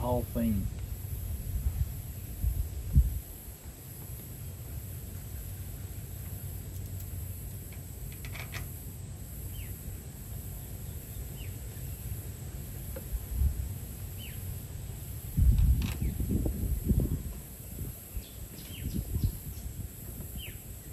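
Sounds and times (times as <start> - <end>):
steady low rumble: 0.0 - 8.1, 8.9 - 20.9.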